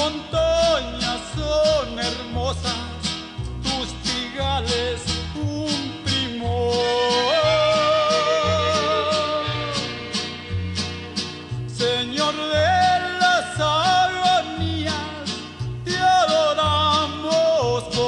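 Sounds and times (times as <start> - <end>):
instrumental music with guitar and bass: 0.0 - 18.0.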